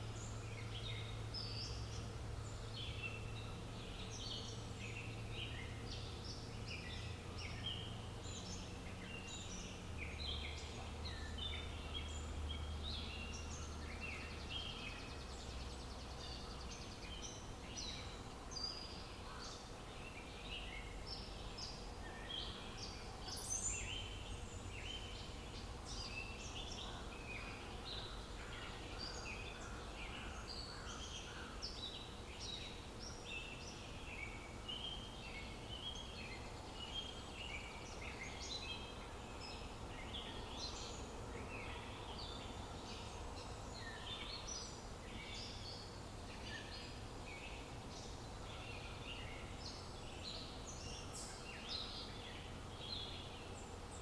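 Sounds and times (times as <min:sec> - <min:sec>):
small birds chirping and singing: 0:00.0 - 0:54.0.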